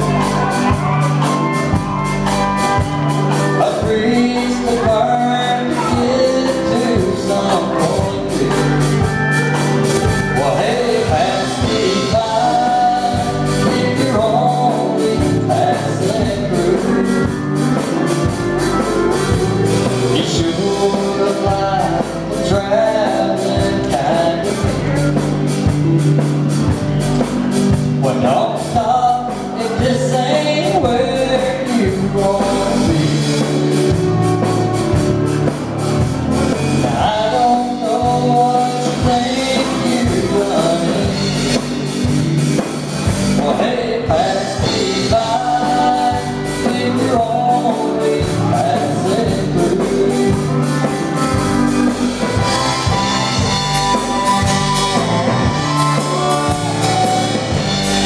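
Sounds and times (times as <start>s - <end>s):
drums: 0.0s - 58.0s
electric guitars: 0.0s - 58.0s.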